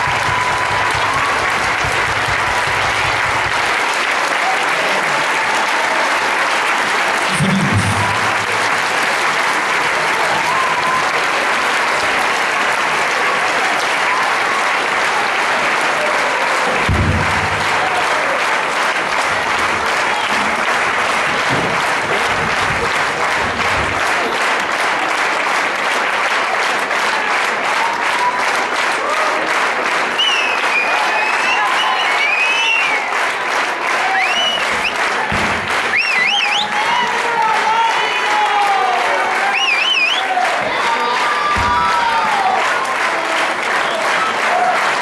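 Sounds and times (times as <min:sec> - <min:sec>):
audience applauding: 0:00.0 - 0:45.0.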